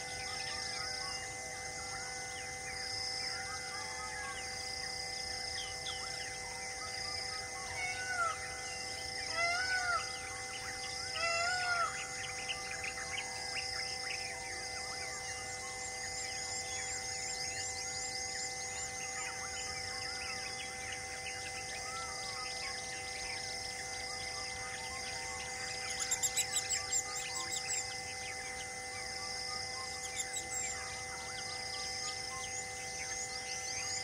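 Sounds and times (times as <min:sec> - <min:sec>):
pulsing insect buzz: 0:00.0 - 0:34.0.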